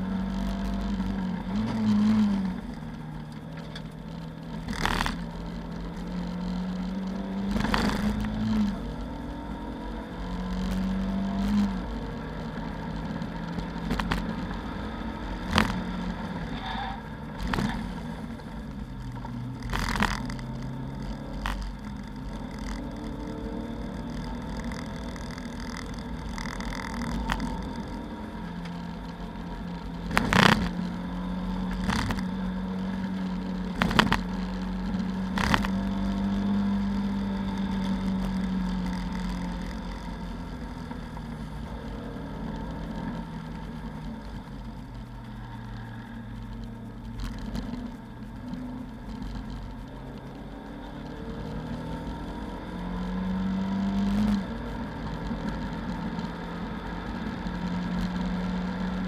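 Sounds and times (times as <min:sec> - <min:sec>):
race car engine from inside cabin: 0:00.0 - 0:59.0.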